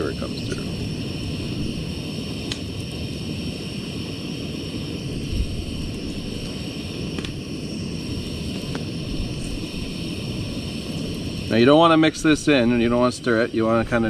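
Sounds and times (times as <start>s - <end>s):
gas stove burner roaring: 0.0s - 14.0s.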